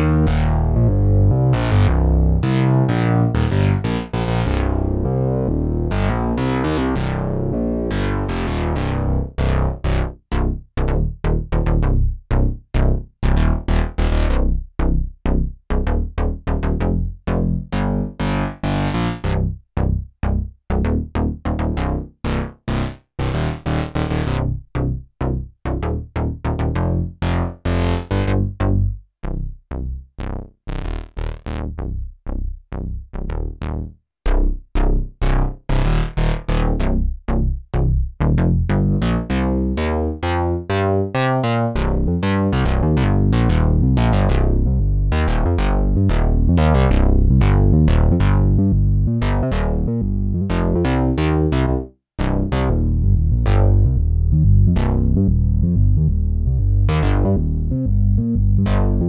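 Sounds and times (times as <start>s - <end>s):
synthesizer bass notes: 0.0s - 59.0s.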